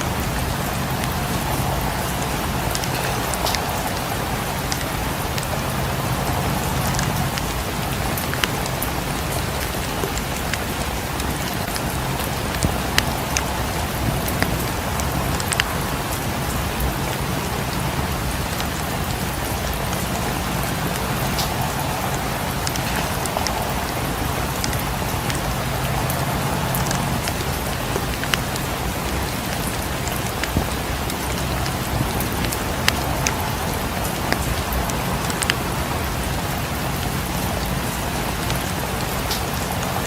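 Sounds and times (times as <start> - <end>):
low steady rumble: 0.0 - 40.0
rain falling on a surface: 0.0 - 40.0.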